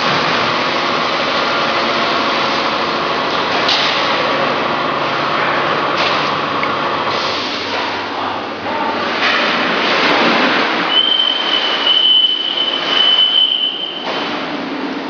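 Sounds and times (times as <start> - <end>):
machinery running with whine: 0.0 - 15.0.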